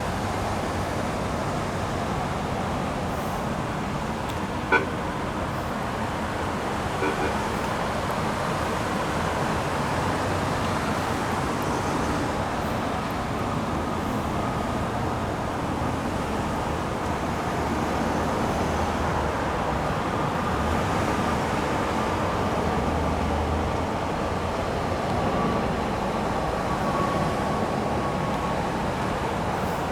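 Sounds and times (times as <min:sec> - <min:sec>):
road traffic: 0:00.0 - 0:29.9.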